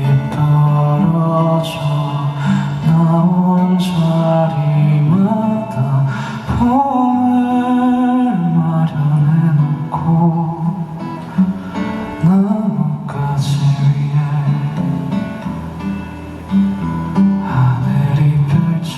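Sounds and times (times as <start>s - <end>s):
man singing: 0.0s - 15.4s, 17.3s - 18.9s
acoustic guitar: 0.0s - 18.9s.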